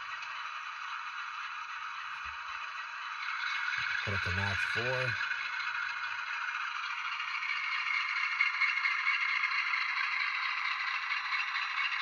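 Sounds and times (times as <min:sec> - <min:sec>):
model diesel engine chug from speaker: 0:00.0 - 0:12.0.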